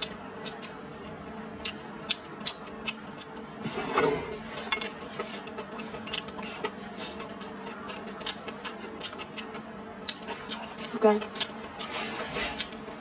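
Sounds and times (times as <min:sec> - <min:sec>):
chewing with wet mouth clicks: 0:00.0 - 0:03.5, 0:04.8 - 0:12.9.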